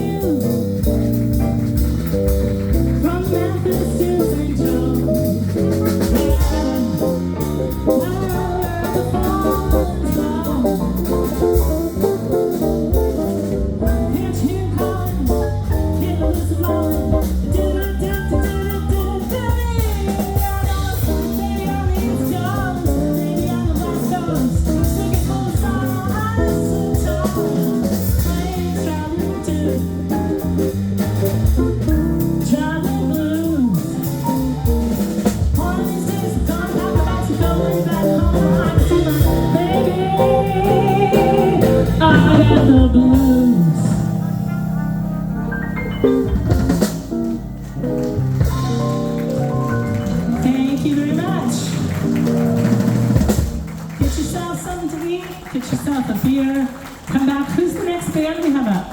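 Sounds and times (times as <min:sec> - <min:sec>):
bass guitar: 0:00.0 - 0:58.4
drum kit: 0:00.0 - 0:58.9.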